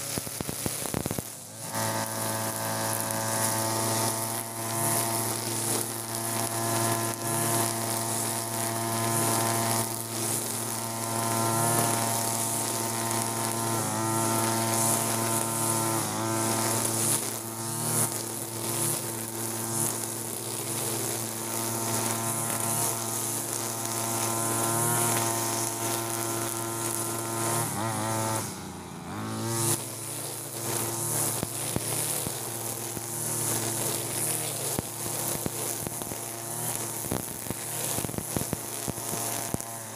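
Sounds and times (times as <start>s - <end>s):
brush cutter engine at high throttle: 0.0s - 39.9s
trimmer line whipping through grass: 0.0s - 39.9s.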